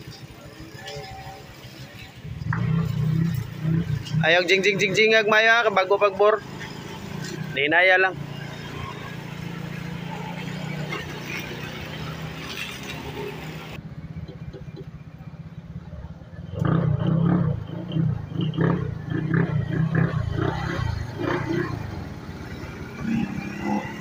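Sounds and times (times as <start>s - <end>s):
scooter engine idling and revving: 0.0s - 24.0s.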